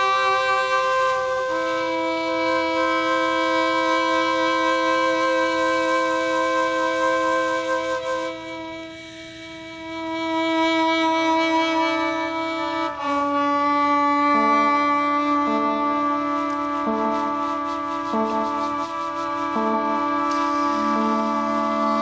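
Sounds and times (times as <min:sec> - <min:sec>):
chamber ensemble holding chords: 0:00.0 - 0:22.0.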